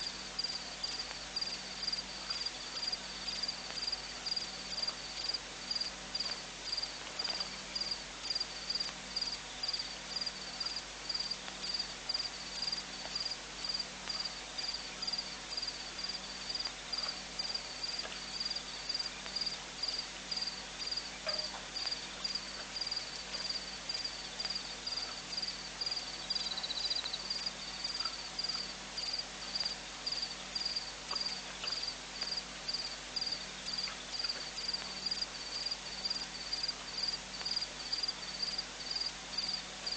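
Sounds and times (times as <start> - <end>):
cricket chirping: 0.1 - 39.9
insect trill: 0.4 - 39.9.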